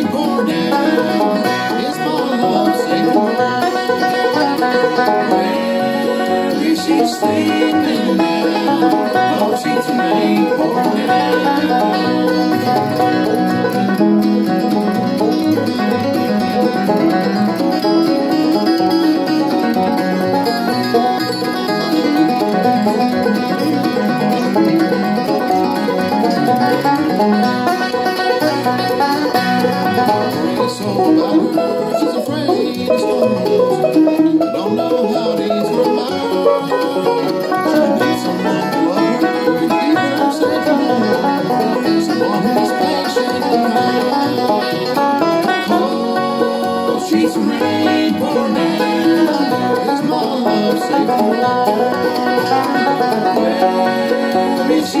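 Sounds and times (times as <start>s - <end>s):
solo banjo picking: 0.0s - 55.0s.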